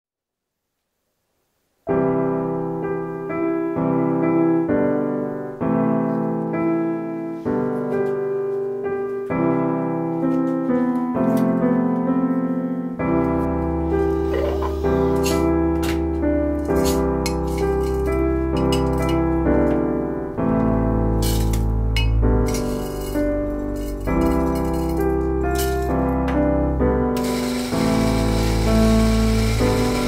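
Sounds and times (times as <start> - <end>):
slow piano chords: 1.9 - 30.0.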